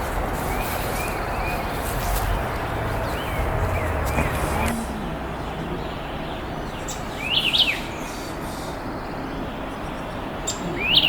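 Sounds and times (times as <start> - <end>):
songbird chirping: 0.0 - 11.0
steady background noise: 0.0 - 11.0.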